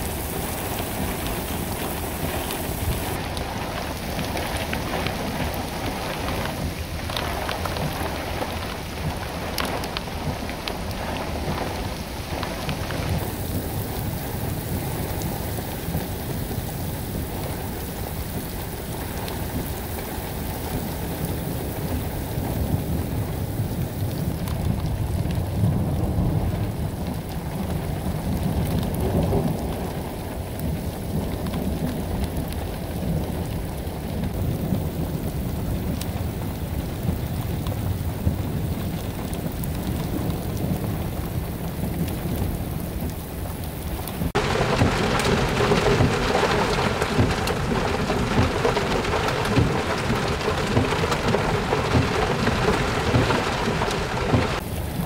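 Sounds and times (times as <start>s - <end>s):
heavy rain on pavement: 0.0s - 55.0s
thunder rumbling: 0.0s - 55.0s.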